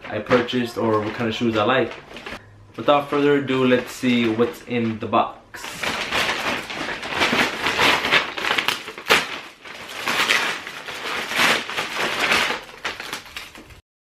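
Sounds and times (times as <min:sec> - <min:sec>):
plastic envelope tearing and crinkling: 0:00.0 - 0:02.4, 0:03.1 - 0:05.0, 0:05.6 - 0:13.8.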